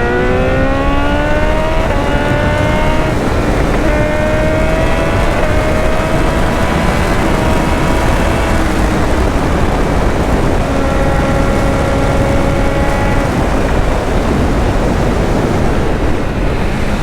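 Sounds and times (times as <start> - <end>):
motorcycle engine accelerating: 0.0 - 17.0
wind rush on microphone: 0.0 - 17.0.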